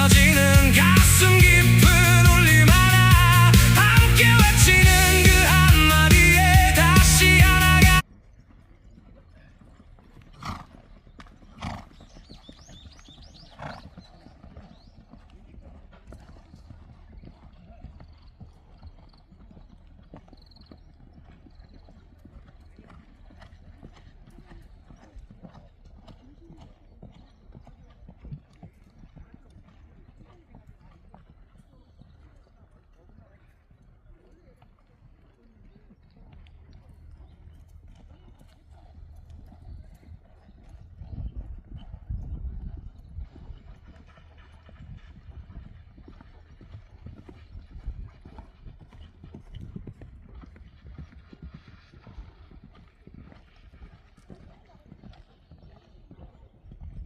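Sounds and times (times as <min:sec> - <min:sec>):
horse hooves clip-clopping: 0:00.0 - 0:57.0.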